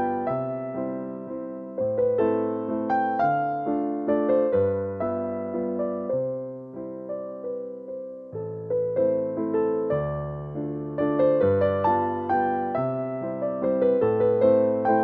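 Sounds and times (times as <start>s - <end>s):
piano tune: 0.0s - 15.0s.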